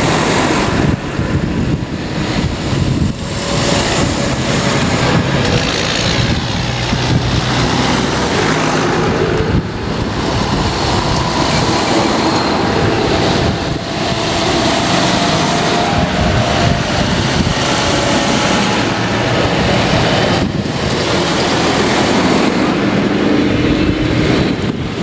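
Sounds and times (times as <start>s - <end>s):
cars passing: 0.0s - 25.0s
tractor diesel engines: 0.0s - 25.0s.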